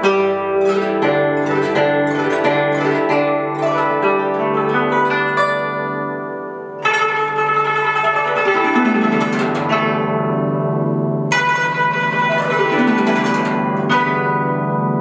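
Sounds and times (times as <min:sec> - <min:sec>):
glissando down zither strings: 0:00.0 - 0:15.0
plucked zither notes: 0:00.0 - 0:15.0.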